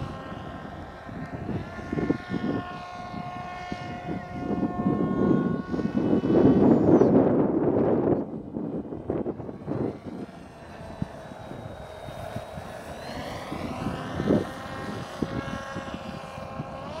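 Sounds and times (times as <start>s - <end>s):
electric motor and propeller whine: 0.0s - 17.0s
wind noise on microphone: 0.0s - 17.0s.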